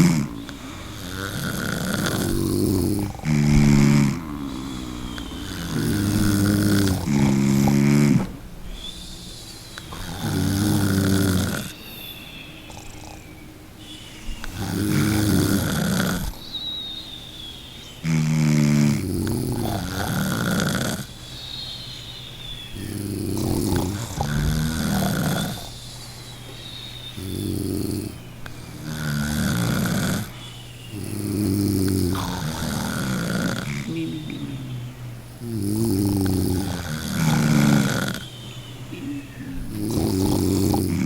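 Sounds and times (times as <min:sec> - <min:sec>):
loud rasping snoring: 0:00.0 - 0:13.4, 0:14.3 - 0:16.6, 0:18.0 - 0:21.5, 0:22.5 - 0:26.2, 0:27.0 - 0:41.0.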